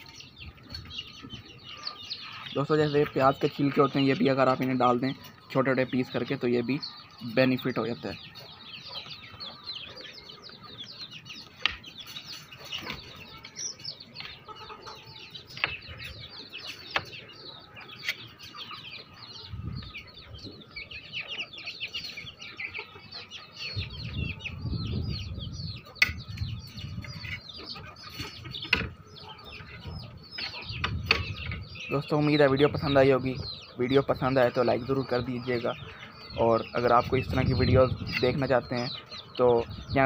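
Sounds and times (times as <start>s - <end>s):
hens clucking: 0.0s - 39.7s
chicks peeping: 0.0s - 40.0s.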